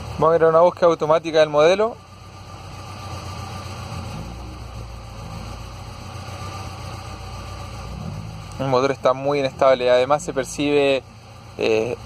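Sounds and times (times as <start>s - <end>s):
car engine idling with misfire: 0.0s - 12.0s.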